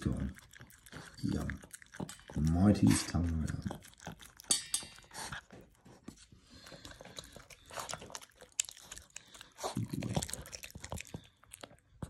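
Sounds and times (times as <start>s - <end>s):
dog chewing and crunching: 0.0s - 12.0s.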